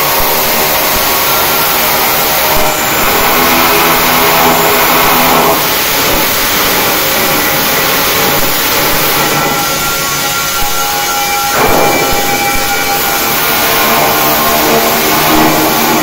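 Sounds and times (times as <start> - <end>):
welding arc crackling and hissing: 0.0 - 16.0.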